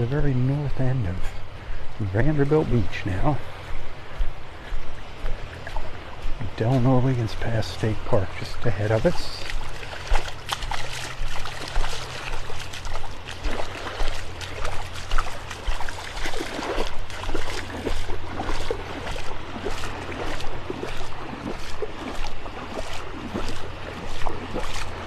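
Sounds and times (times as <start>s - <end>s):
footsteps splashing in shallow water: 0.0s - 25.0s.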